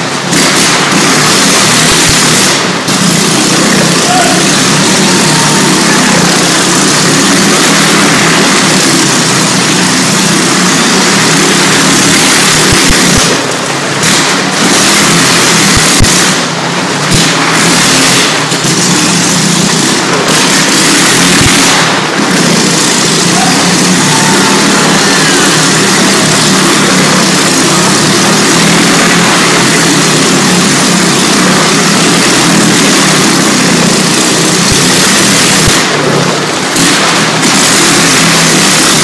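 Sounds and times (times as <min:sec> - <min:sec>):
motorcycle engines at speed: 0:00.0 - 0:39.0.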